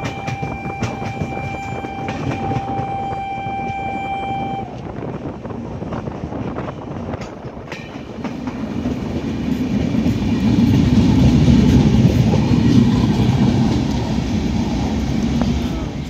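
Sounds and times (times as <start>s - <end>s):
train wheels clattering on track: 0.0s - 16.0s.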